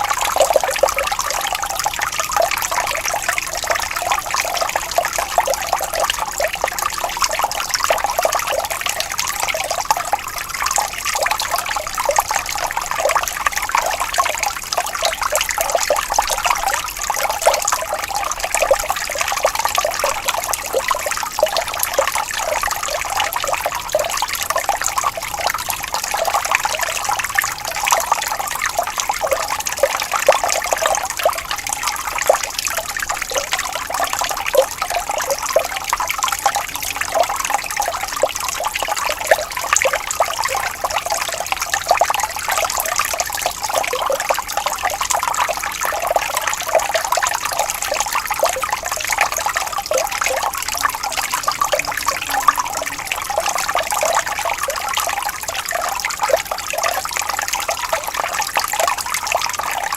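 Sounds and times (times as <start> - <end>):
shallow water trickling: 0.0 - 59.9.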